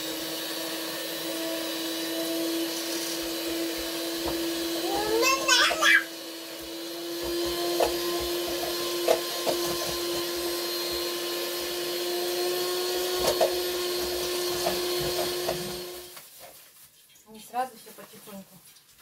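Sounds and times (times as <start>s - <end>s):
electric mixer humming: 0.0s - 16.2s.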